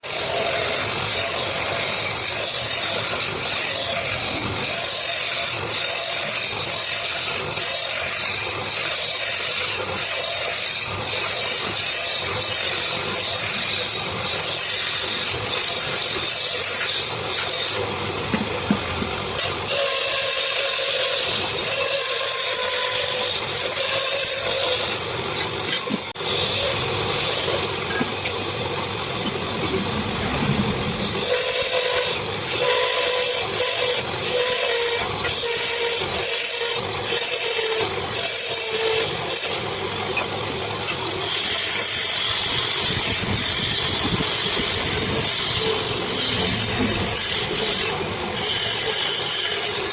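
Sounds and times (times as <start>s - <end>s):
wood lathe tool scraping hiss: 0.0s - 18.5s, 19.2s - 49.9s.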